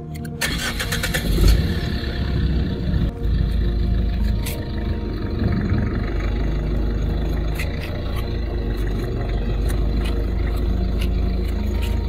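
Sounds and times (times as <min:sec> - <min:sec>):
car engine idling: 0:00.4 - 0:12.0.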